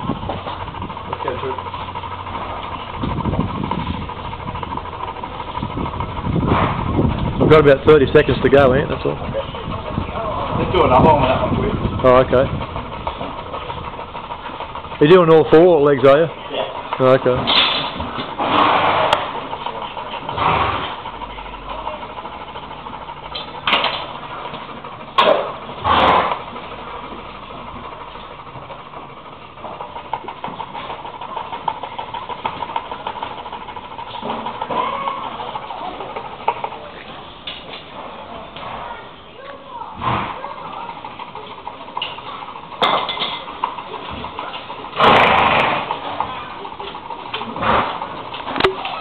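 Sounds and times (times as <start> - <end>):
hoof rasp scraping: 0.0 - 49.0
steady background hum: 0.0 - 49.0.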